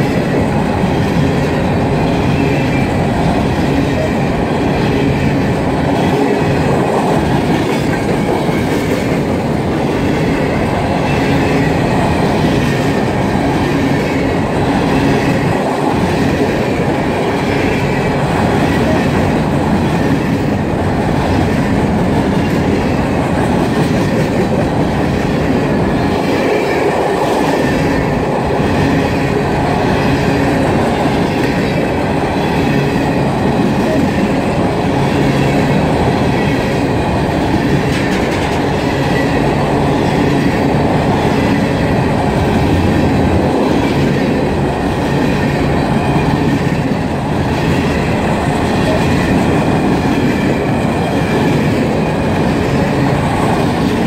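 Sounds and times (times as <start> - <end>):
clickety-clack over rail joints: 0.0 - 54.0
rumble of train wheels on rail: 0.0 - 54.0.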